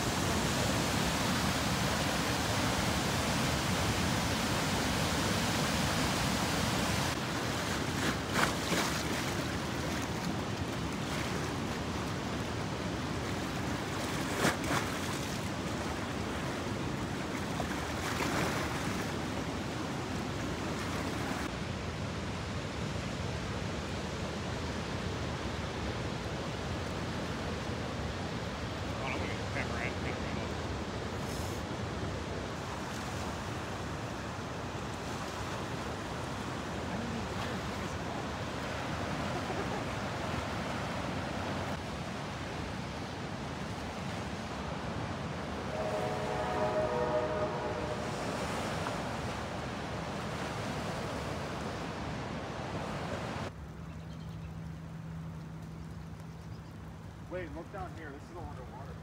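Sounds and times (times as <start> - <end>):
river rushing roar: 0.0 - 53.6.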